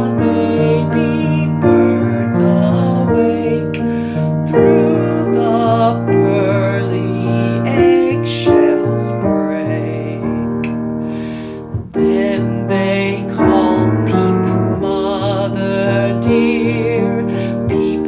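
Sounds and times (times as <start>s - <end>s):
person singing with vibrato: 0.0s - 18.0s.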